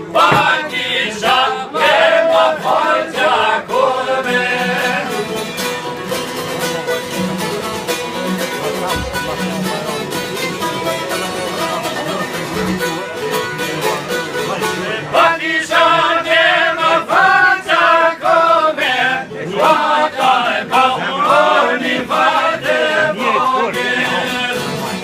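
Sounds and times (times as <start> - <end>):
plucked string instruments: 0.0 - 25.0.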